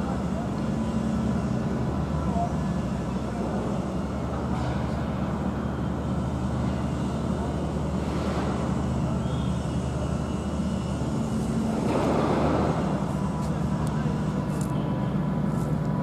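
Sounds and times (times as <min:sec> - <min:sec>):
construction machinery drone: 0:00.0 - 0:16.0.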